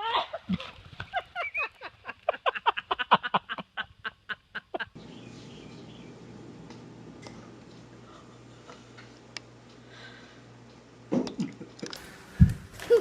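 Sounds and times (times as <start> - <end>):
low hum with hiss: 0.1 - 13.0.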